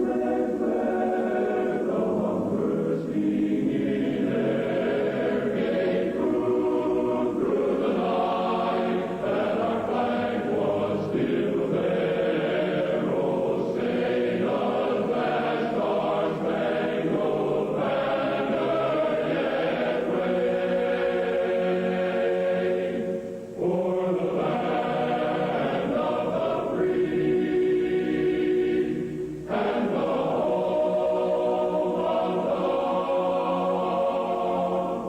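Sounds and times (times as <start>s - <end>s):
choir singing held chords: 0.0s - 35.0s.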